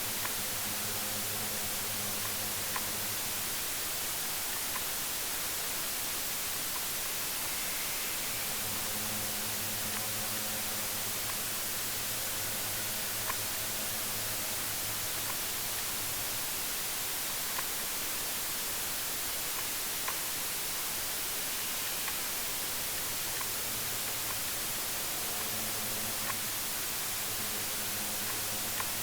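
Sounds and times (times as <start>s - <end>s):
white-noise static hiss: 0.0s - 29.0s.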